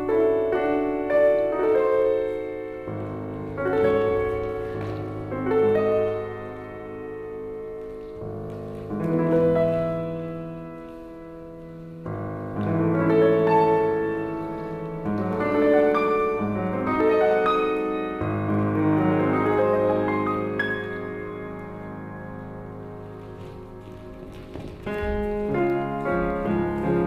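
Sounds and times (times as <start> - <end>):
piano playing classical music: 0.0 - 27.0.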